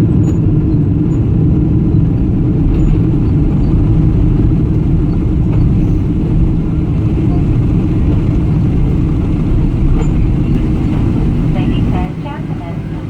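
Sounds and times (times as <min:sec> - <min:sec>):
jet airliner cabin rumble: 0:00.0 - 0:13.0.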